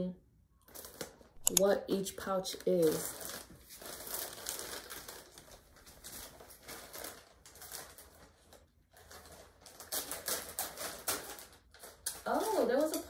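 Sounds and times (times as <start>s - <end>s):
plastic bag crinkling: 0.7s - 1.4s, 2.2s - 13.0s.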